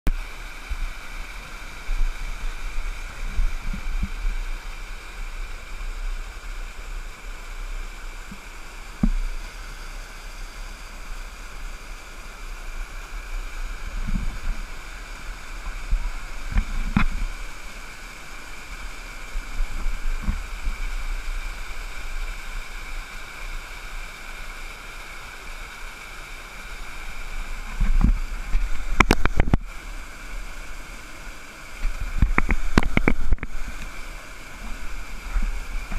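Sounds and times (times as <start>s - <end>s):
waterfall rushing over rock: 0.1s - 35.9s.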